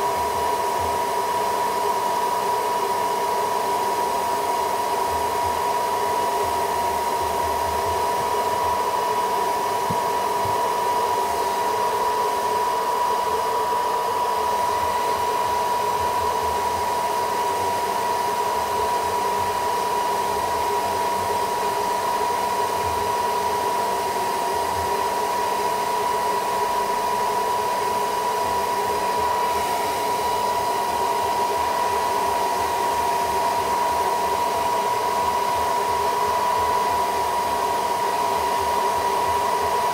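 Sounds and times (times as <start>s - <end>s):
hot-air blower whining: 0.0s - 39.9s.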